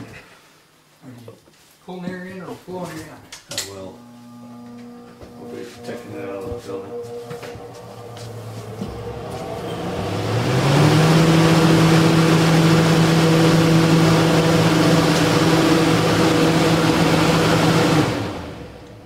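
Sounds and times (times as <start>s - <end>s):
fan rushing air: 3.7s - 19.0s.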